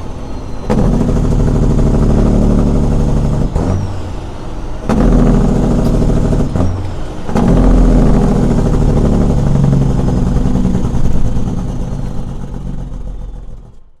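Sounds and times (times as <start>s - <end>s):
diesel truck engine under load: 0.0s - 14.0s.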